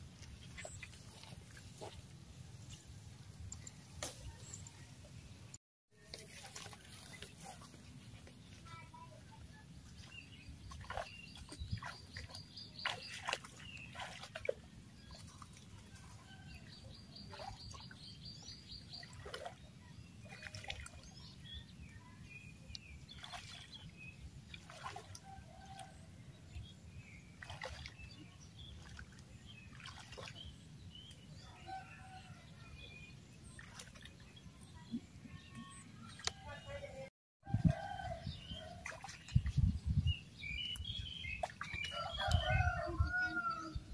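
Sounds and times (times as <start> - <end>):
splashing in shallow water: 0.0 - 4.9, 5.9 - 8.6, 9.5 - 26.1, 27.2 - 39.8, 40.4 - 43.7.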